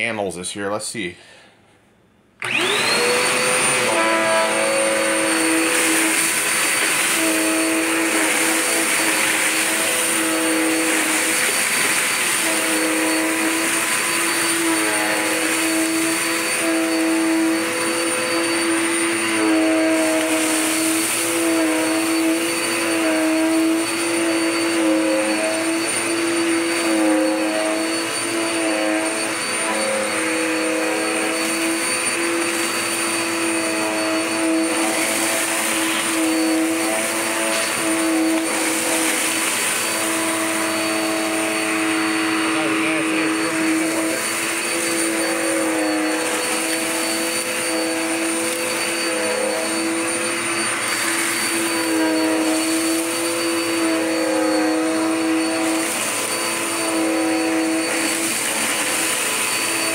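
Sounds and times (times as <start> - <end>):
vacuum cleaner running on carpet: 2.4 - 59.9.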